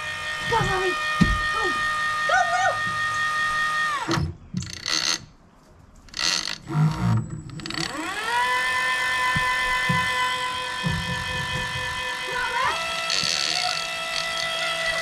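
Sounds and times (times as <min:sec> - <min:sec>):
electric reel motor whining: 0:00.0 - 0:05.2, 0:06.2 - 0:15.0.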